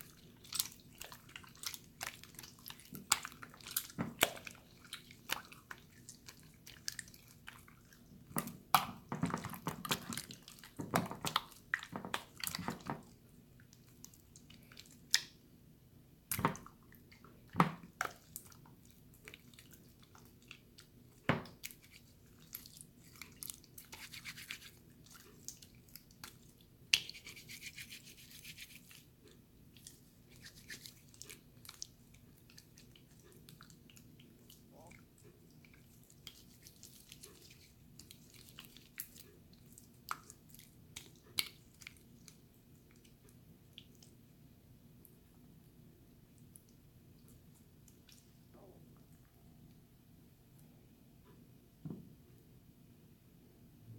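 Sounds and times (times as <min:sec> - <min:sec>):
wet slime squelching: 0:00.0 - 0:15.5, 0:16.2 - 0:44.4, 0:45.0 - 0:49.5.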